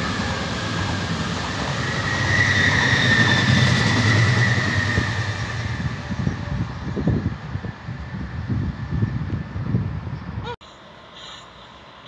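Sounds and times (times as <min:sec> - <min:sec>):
train wheels rumbling on rail: 0:00.0 - 0:10.4.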